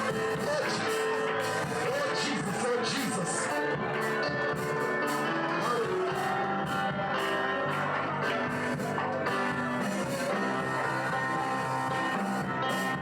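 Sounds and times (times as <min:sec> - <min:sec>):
worship music with guitar: 0:00.0 - 0:13.0.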